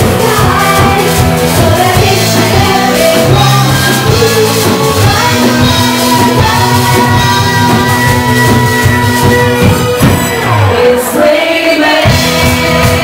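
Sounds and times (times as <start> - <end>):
drum kit: 0.0 - 13.0
guitar: 0.0 - 13.0
live band playing: 0.0 - 13.0.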